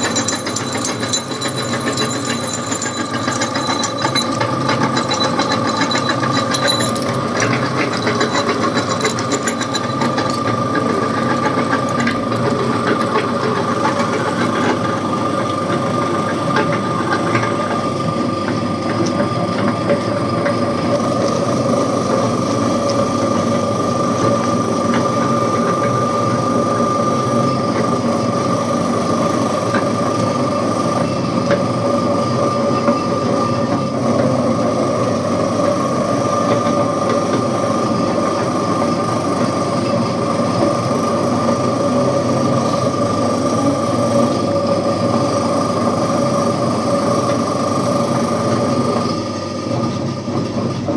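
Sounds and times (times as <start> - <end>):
meat grinder motor whine: 0.0 - 50.9.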